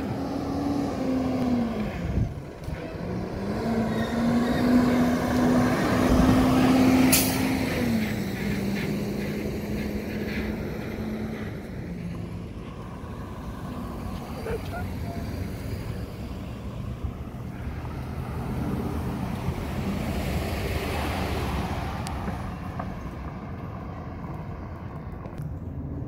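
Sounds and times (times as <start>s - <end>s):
truck diesel engine driving past: 0.0s - 24.0s.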